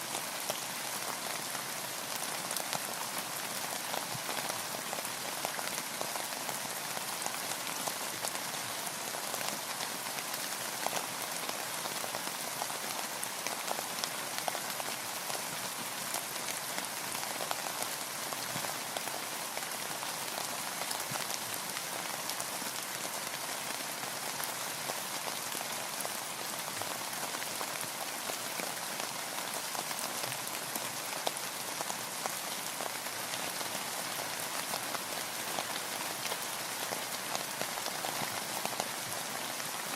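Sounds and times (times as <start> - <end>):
rain falling on a boat: 0.0 - 39.9.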